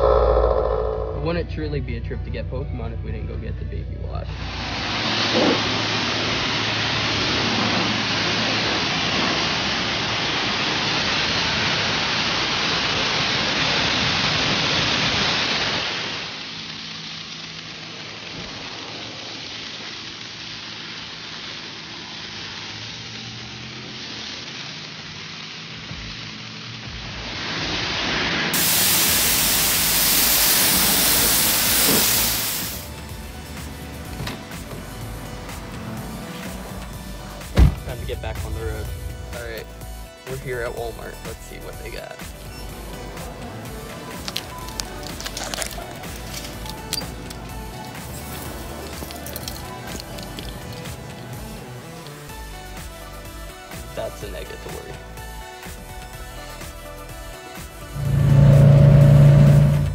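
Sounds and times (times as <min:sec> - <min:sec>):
pressure washer spraying water: 0:04.3 - 0:59.9.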